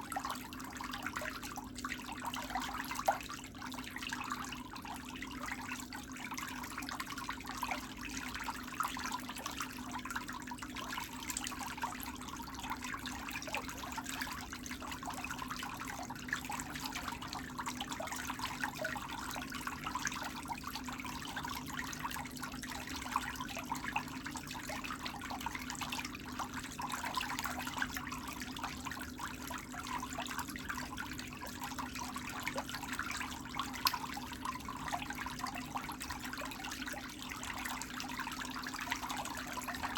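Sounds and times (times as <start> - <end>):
low constant hum: 0.0 - 39.9
water trickling and splashing: 0.0 - 39.9.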